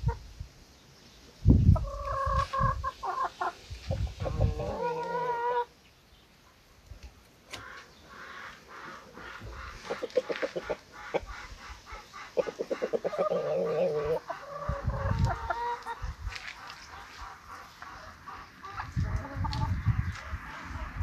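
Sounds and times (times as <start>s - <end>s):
chickens clucking: 0.0s - 0.3s, 1.5s - 21.0s.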